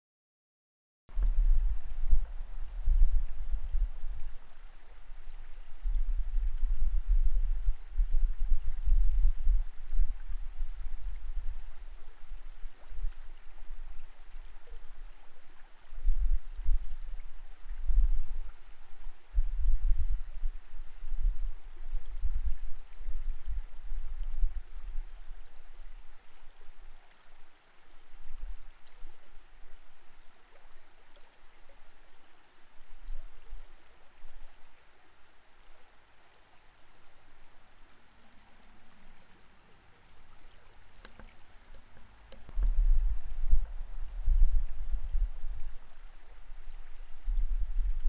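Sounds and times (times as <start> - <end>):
muffled underwater rumble: 1.1 - 48.0.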